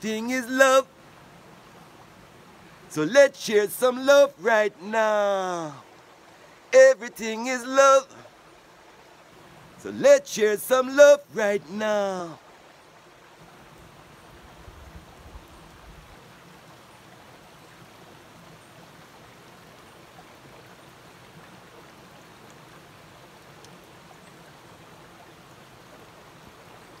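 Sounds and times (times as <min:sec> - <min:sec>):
stream flowing over rocks: 0:00.0 - 0:27.0.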